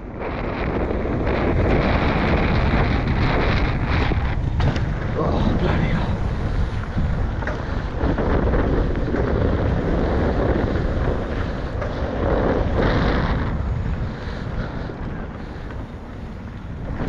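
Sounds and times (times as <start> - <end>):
low rumble: 0.0 - 17.0
wind rushing over microphone: 0.0 - 17.0.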